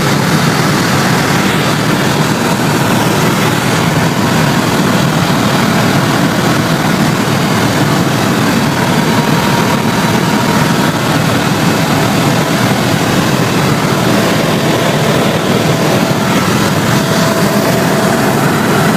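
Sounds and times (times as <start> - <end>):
helicopter engine and rotor noise: 0.0 - 18.9.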